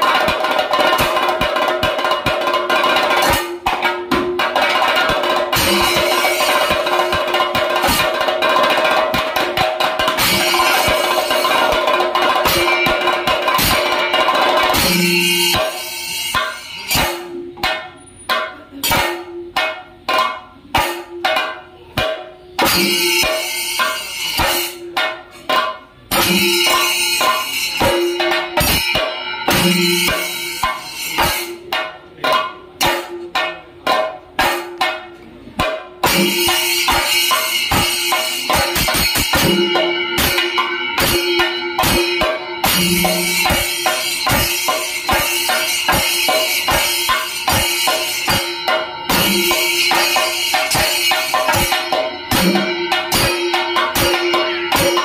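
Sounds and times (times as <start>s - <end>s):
drums struck with sticks: 0.0s - 55.0s
hand cymbals clashing: 0.0s - 55.0s.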